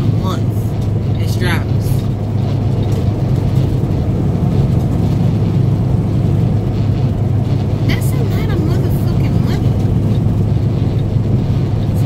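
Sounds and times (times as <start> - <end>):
road noise inside cab: 0.0 - 12.0
truck engine rumble: 0.0 - 12.0.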